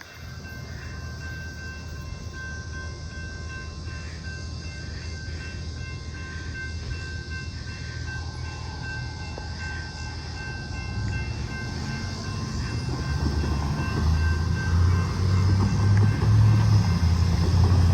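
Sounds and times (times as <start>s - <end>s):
steady high tones: 0.0s - 17.9s
truck engine and rail wheels rumble: 0.0s - 17.9s.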